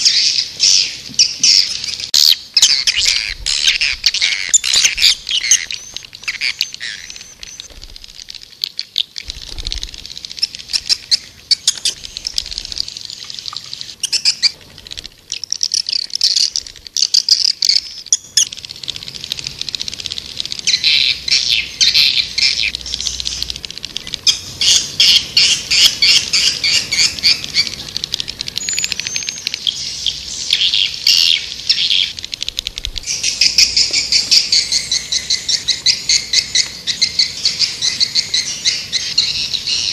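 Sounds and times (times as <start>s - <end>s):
swiftlets twittering: 2.0s - 8.5s, 9.1s - 39.3s.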